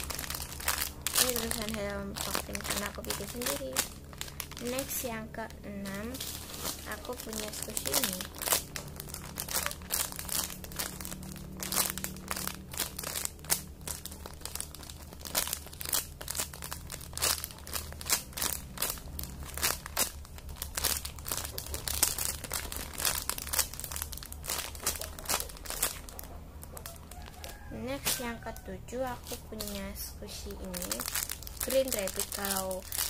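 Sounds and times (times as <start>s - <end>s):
steady low hum: 0.0s - 27.1s
squishy toy crinkling: 0.0s - 33.0s.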